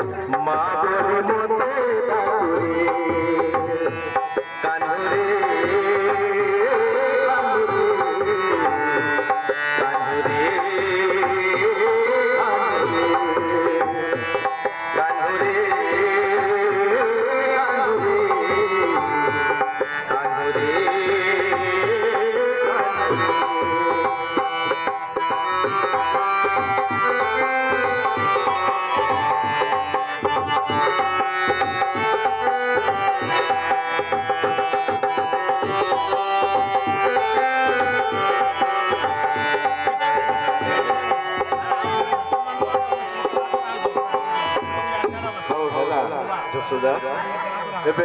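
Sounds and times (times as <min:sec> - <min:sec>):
sustained melody line: 0:00.0 - 0:48.0.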